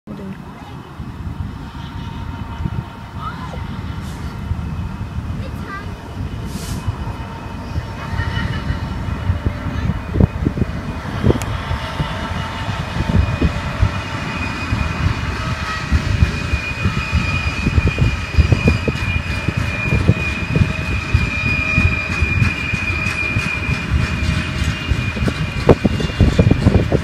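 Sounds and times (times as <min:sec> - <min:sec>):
steady high whine: 0:00.1 - 0:27.0
train wagons rumbling on rails: 0:00.1 - 0:27.0.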